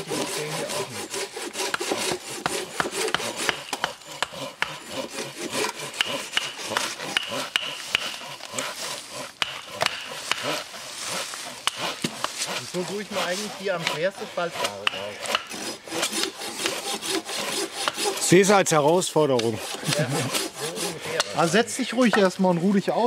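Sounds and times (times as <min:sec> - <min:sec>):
hand saw cutting wood: 0:00.0 - 0:23.0.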